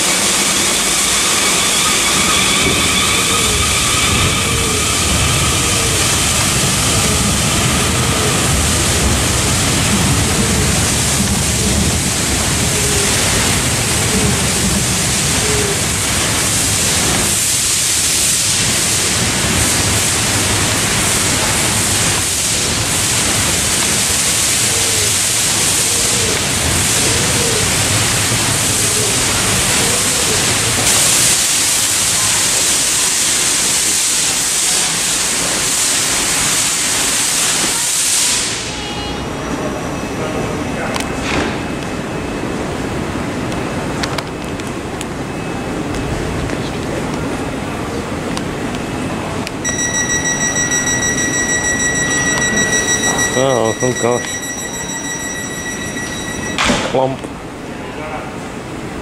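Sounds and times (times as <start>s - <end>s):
train rumbling along rails: 0.0s - 59.0s.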